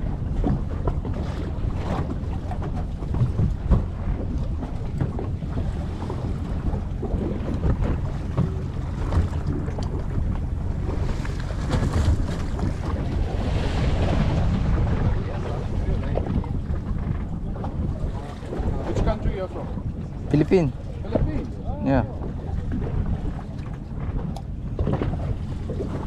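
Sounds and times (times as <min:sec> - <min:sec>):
boat engine drone: 0:00.0 - 0:26.0
water noise: 0:00.0 - 0:26.0
wind buffeting microphone: 0:00.0 - 0:26.0.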